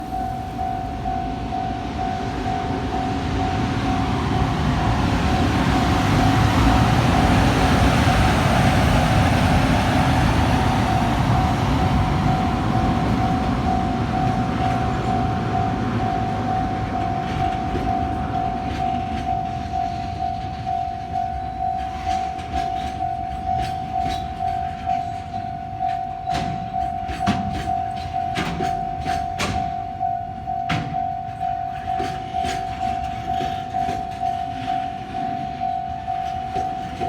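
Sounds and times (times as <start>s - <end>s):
crossing warning bell ringing: 0.0s - 37.0s
freight train rumbling past: 0.0s - 37.0s.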